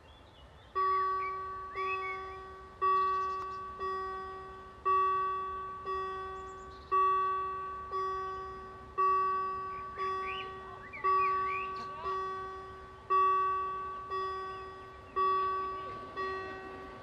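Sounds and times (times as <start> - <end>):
bird chirping: 0.0 - 4.2, 5.1 - 8.6, 9.2 - 16.2
level crossing warning bell: 0.0 - 17.0.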